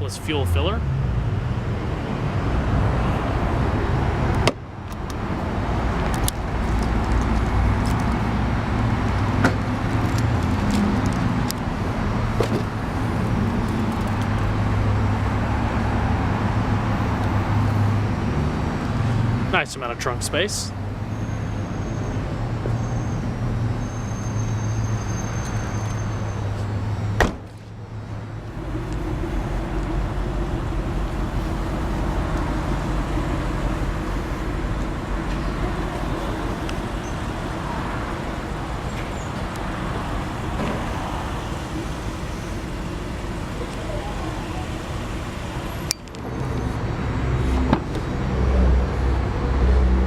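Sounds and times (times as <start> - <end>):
background traffic rumble: 0.0 - 50.0.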